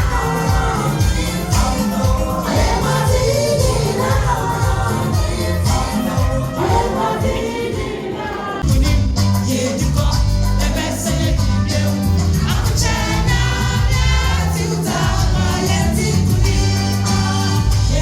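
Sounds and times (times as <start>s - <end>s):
steady bass line: 0.0s - 7.4s, 8.6s - 18.0s
gospel singing voices: 0.0s - 18.0s
percussion beat: 0.0s - 18.0s.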